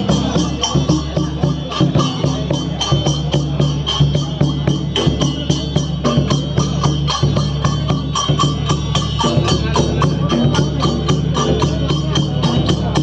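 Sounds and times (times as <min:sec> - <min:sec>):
drums: 0:00.0 - 0:13.0
jingling percussion: 0:00.0 - 0:13.0.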